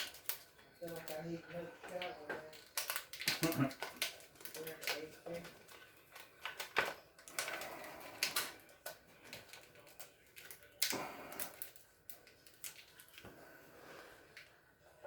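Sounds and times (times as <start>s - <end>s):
plastic parts clicking and knocking: 0.0s - 13.3s.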